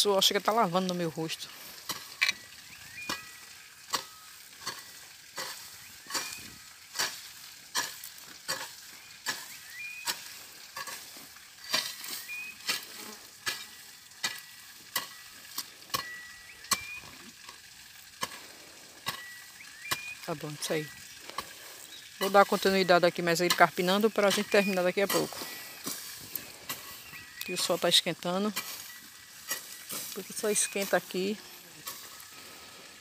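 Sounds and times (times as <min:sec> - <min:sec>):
hoe chopping and scraping soil: 0:01.7 - 0:17.6, 0:18.2 - 0:22.7, 0:23.4 - 0:32.3.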